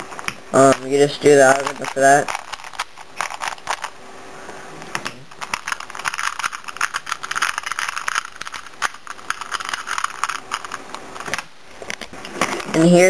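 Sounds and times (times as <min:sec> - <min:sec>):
puzzle cube clicking and rattling: 0:00.0 - 0:04.0, 0:04.8 - 0:13.0.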